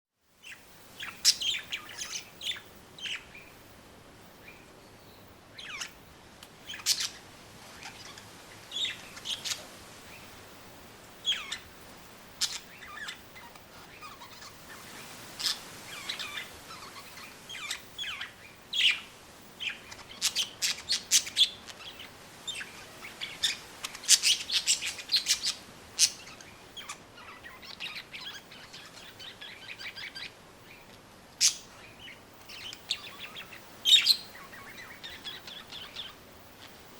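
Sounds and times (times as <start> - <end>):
budgies chirping and chattering: 0.4 - 3.6, 5.5 - 10.4, 11.2 - 11.7, 12.3 - 36.9.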